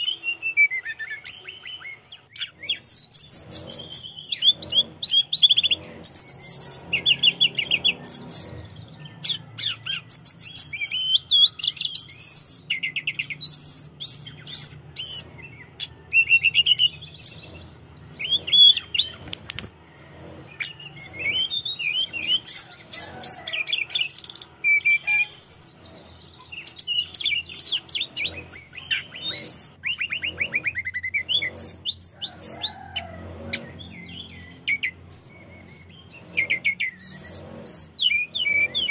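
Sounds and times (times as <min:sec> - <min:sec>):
bird song with chirps and trills: 0:00.0 - 0:38.9.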